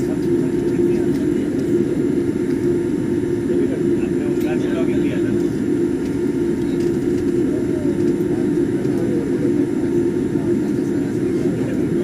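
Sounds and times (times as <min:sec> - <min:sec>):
aircraft cabin hum: 0:00.0 - 0:12.0
faint passenger voices: 0:00.0 - 0:12.0.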